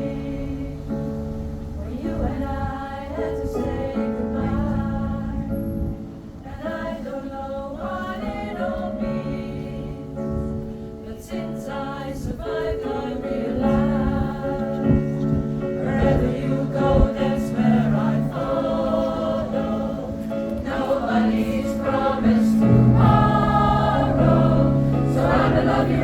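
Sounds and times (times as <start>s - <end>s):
pop choir singing: 0.0s - 26.0s.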